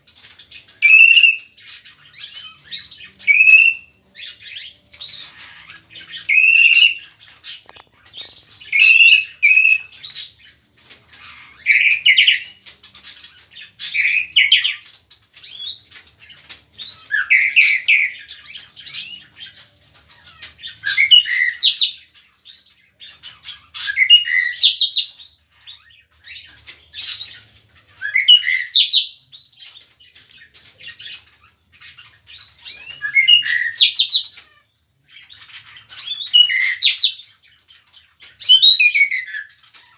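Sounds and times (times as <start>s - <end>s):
mockingbird singing: 0.4s - 37.6s, 38.2s - 39.9s.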